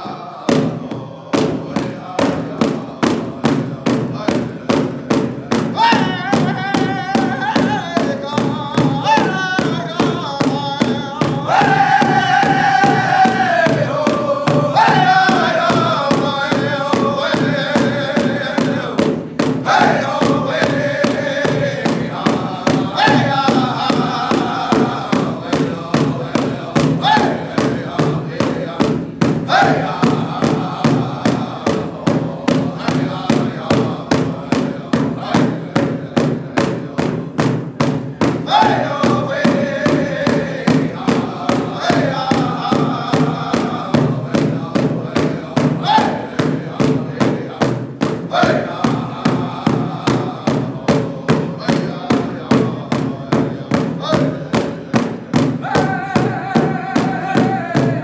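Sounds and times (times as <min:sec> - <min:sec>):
group singing: 0:00.0 - 0:58.0
steady beats on hide drum: 0:00.0 - 0:58.0.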